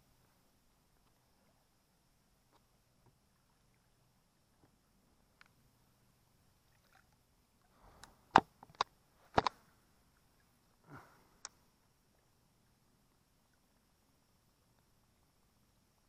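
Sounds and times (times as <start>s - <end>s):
faint small ticks: 0.3s - 1.7s, 2.4s - 5.7s, 6.6s - 16.0s.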